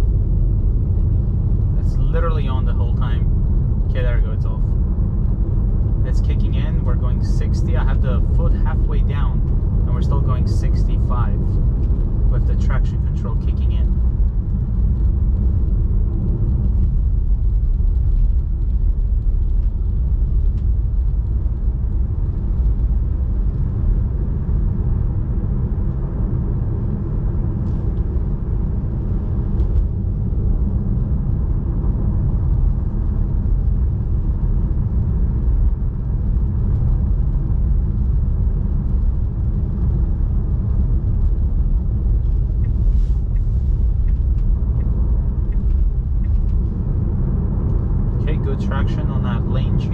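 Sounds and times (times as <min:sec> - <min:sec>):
tyre and road noise: 0:00.0 - 0:49.9.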